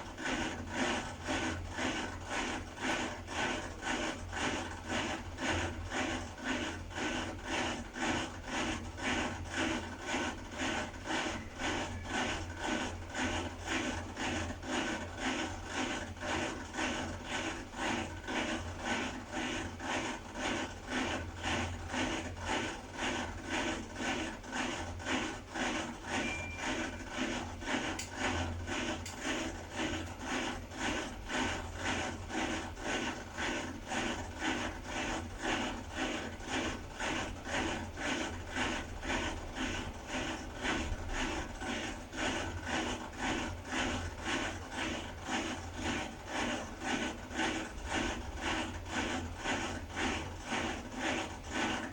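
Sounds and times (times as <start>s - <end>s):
washer-dryer low hum: 0.0s - 51.9s
washer-dryer rhythmic rasping scrape: 0.0s - 51.9s.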